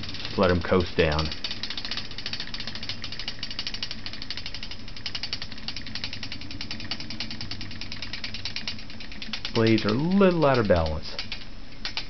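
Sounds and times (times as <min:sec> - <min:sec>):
fan blades clicking rattle: 0:00.0 - 0:12.0.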